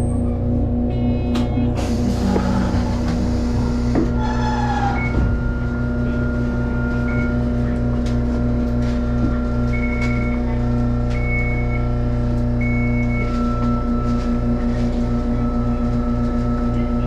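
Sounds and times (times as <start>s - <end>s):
tram electrical hum: 0.0s - 17.0s.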